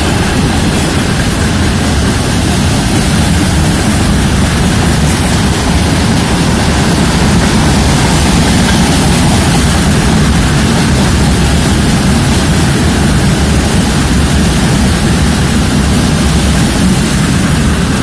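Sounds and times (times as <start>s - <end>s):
freight train wheels rumbling on rails: 0.0s - 18.0s.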